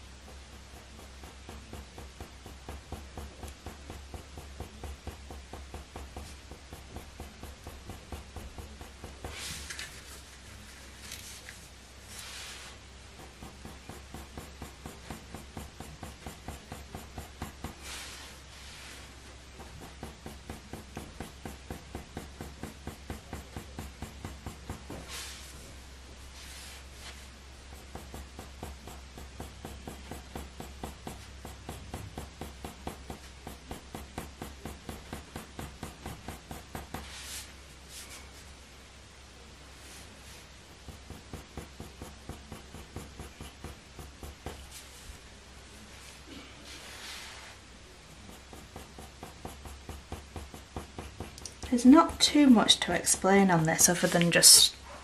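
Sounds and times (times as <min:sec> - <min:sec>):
pencil scratching on paper: 0:00.2 - 0:25.6, 0:26.3 - 0:38.2, 0:39.8 - 0:45.2, 0:46.7 - 0:54.9.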